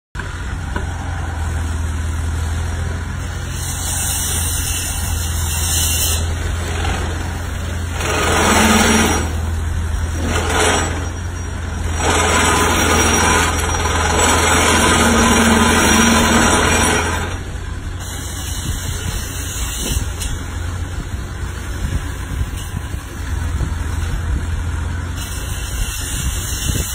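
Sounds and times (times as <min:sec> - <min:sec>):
plate compactor humming: 0:00.2 - 0:26.9
rushing noise bursts: 0:00.2 - 0:26.9.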